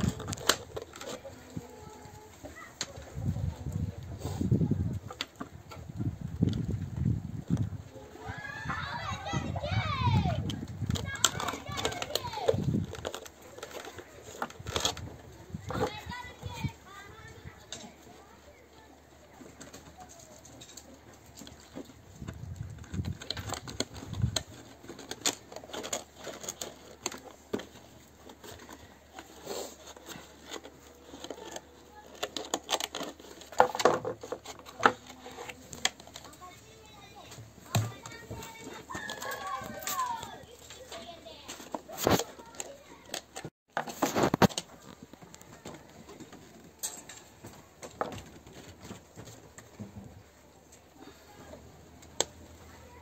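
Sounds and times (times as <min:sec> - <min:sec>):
plastic crackling against metal: 0:00.0 - 0:04.0, 0:07.4 - 0:53.0
plastic rustling: 0:00.0 - 0:04.8, 0:08.7 - 0:53.0.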